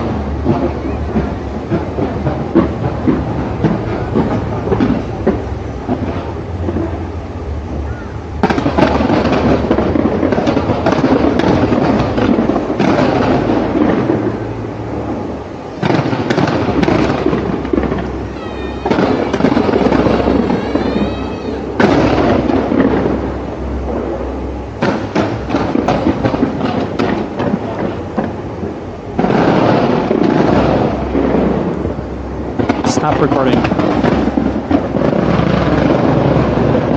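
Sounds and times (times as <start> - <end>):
fireworks crackling and banging: 0.0 - 36.9
whistling fireworks: 0.0 - 36.9.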